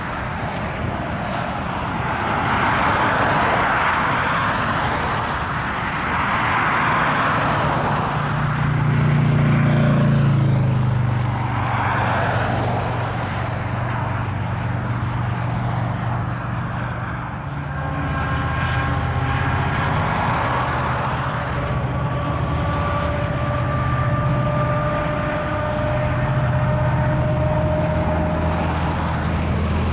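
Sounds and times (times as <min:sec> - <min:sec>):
locomotive engine drone: 0:00.0 - 0:29.9
train rushing noise: 0:00.0 - 0:29.9.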